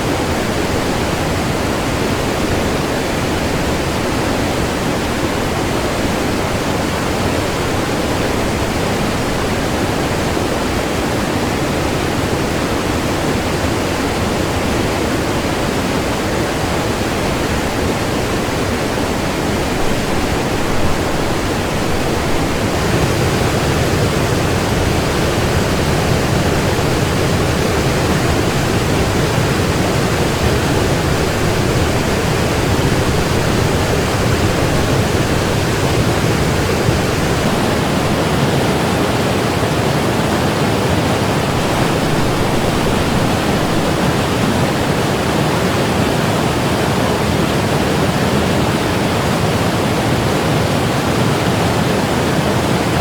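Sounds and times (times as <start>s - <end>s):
river rapids rushing: 0.0s - 53.0s.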